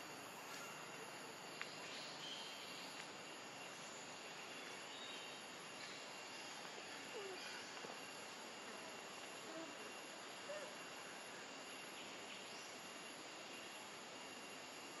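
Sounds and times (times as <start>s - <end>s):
high insect drone: 0.0s - 15.0s
steady hiss: 0.0s - 15.0s.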